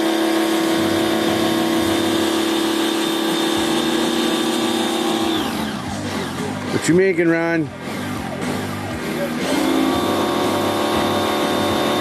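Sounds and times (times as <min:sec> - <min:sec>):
small motor humming: 0:00.0 - 0:06.7, 0:07.7 - 0:12.0.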